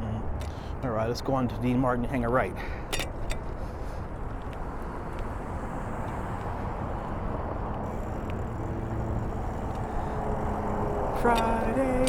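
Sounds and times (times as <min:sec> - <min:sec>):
engine hum: 0:00.0 - 0:12.0
passing vehicles rushing: 0:00.0 - 0:12.0.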